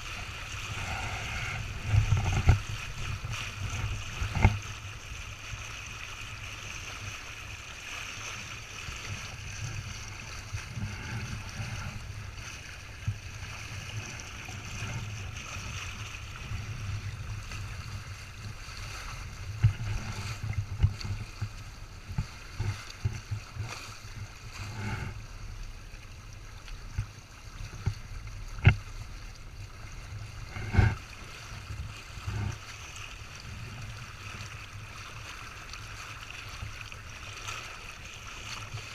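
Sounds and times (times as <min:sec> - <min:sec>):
water rushing along boat hulls: 0:00.0 - 0:38.9.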